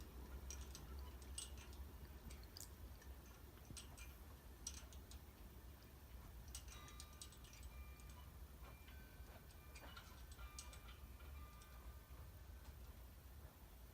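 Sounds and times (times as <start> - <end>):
ceiling fan faint hum: 0.0 - 13.9
light ticks: 0.0 - 13.9.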